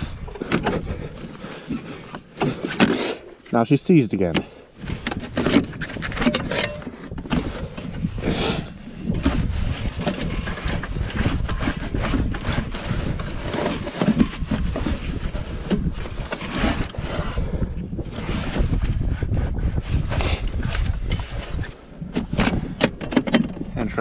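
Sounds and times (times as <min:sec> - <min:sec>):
wind rumbling on microphone: 0:00.0 - 0:02.6, 0:04.7 - 0:24.0
gloved hands rustling and scraping: 0:00.0 - 0:23.0.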